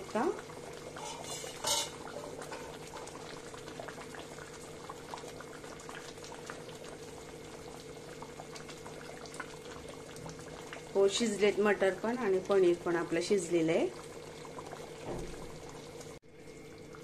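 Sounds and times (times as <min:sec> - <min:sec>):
thick gravy bubbling and popping: 0:00.0 - 0:17.0.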